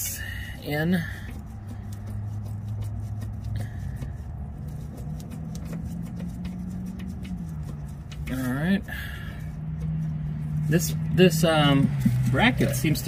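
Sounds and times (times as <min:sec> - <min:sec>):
steady low hum: 0:00.0 - 0:13.0
wrench clicking and scraping: 0:00.0 - 0:13.0.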